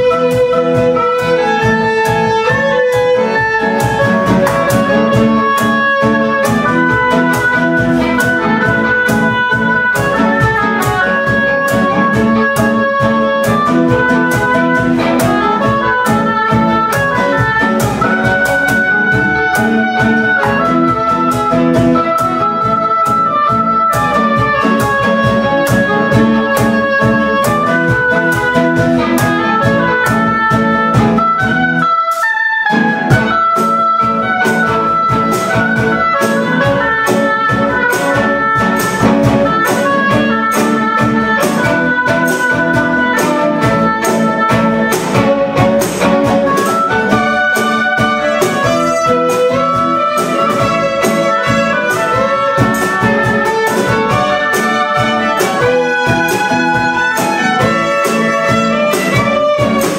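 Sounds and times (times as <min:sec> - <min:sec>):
acoustic quartet playing: 0:00.0 - 0:59.9
cajon beat: 0:00.0 - 0:59.9.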